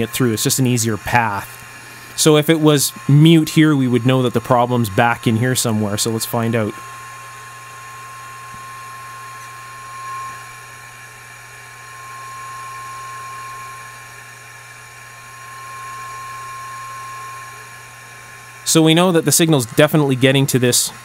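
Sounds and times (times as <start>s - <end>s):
steady test tone from speaker: 0.0s - 10.9s, 11.7s - 14.0s, 15.2s - 21.0s.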